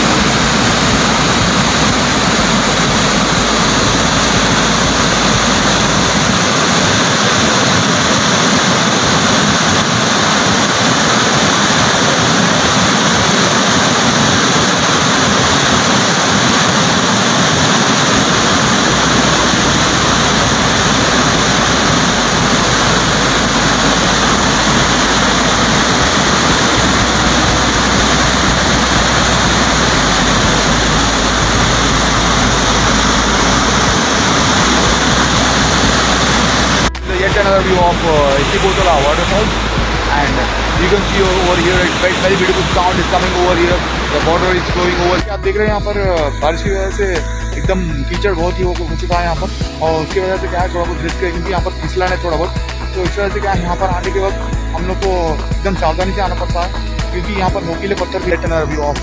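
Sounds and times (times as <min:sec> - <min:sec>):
waterfall rushing: 0:00.0 - 0:47.6.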